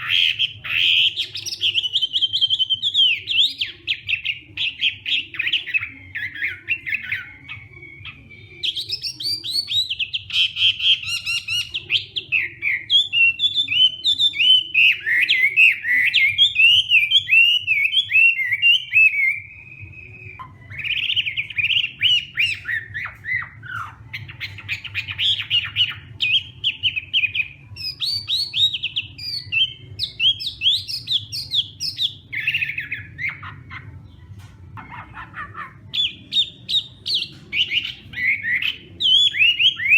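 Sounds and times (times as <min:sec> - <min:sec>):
bird singing varied song: 0:00.0 - 0:39.9
faint low hum: 0:00.0 - 0:39.9.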